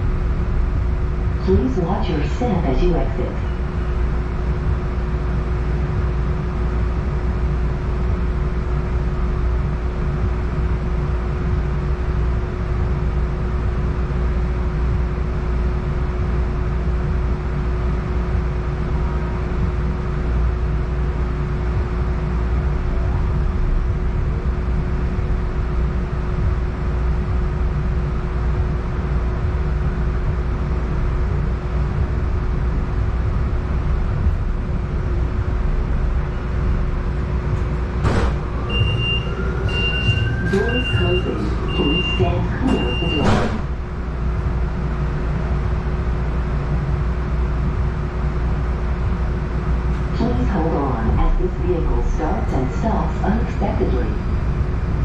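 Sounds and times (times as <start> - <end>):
constant hum tone: 0.0 - 55.0
streetcar equipment rumble: 0.0 - 55.0.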